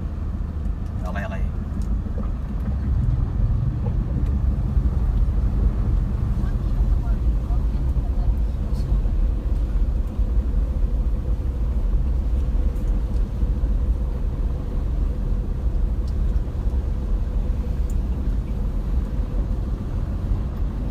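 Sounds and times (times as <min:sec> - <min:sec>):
vehicle engine rumble: 0:00.0 - 0:20.9.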